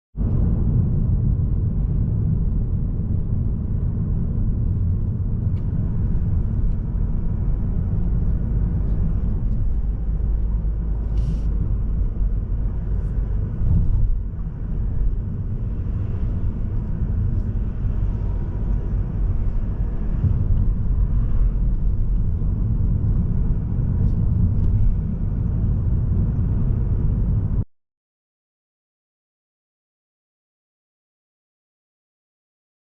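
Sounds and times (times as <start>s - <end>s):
car road noise rumble: 0.2s - 27.6s.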